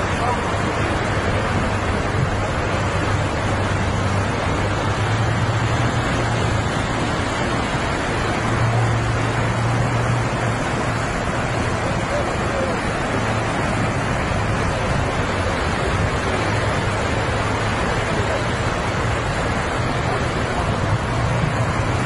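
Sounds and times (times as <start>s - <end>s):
floodwater rushing: 0.0s - 22.0s
heavy truck engines droning: 0.0s - 22.0s.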